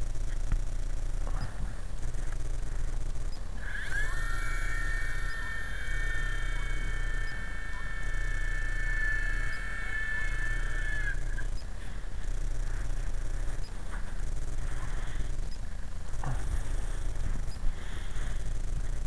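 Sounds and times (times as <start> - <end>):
rc helicopter motor whining: 1.4 - 19.0.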